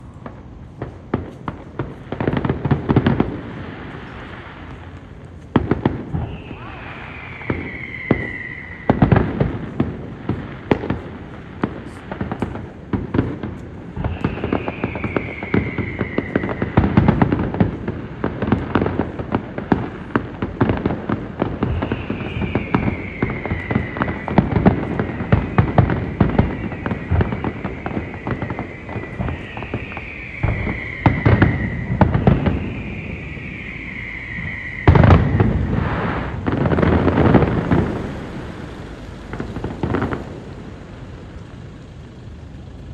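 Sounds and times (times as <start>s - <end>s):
falling firework whistle: 0.0s - 42.9s
fireworks bangs and crackles: 0.0s - 42.9s.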